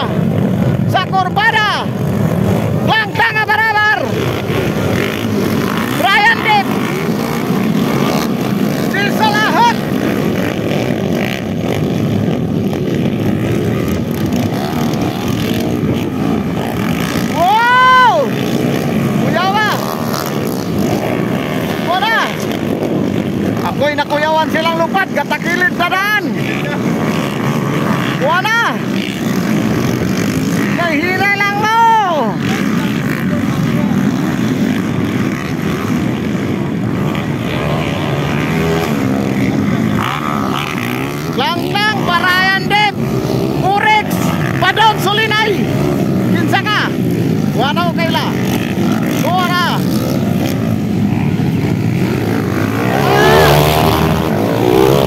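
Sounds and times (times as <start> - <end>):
motorcycle engines racing: 0.0 - 55.0
motorcycle revving: 0.0 - 55.0.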